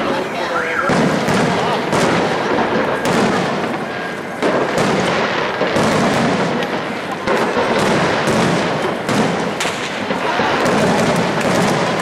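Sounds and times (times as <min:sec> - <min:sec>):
constant din: 0:00.0 - 0:12.0
firework shells bursting: 0:00.8 - 0:12.0.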